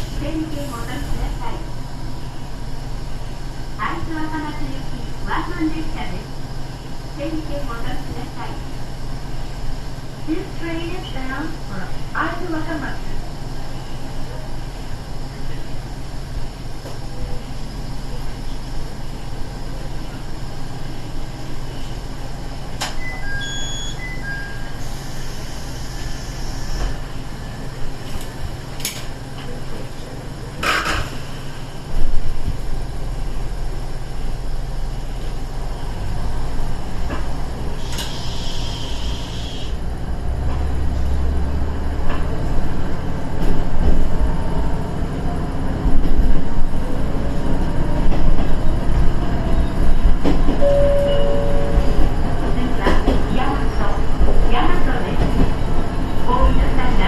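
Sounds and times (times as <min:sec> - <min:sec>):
diesel railcar engine rumble: 0:00.0 - 0:57.0.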